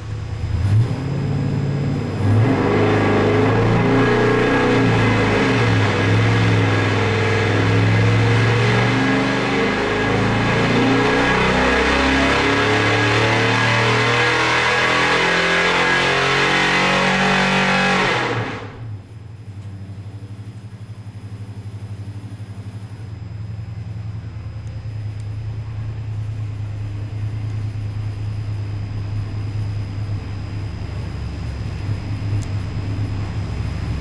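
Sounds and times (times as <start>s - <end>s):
car engine running on dyno: 0.0s - 34.0s.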